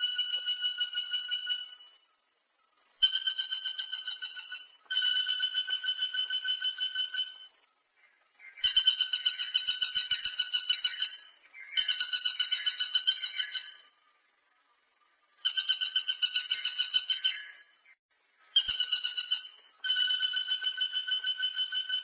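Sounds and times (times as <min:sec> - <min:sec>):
woodpecker rattling call: 0:00.0 - 0:02.0, 0:03.0 - 0:14.0, 0:15.4 - 0:22.0.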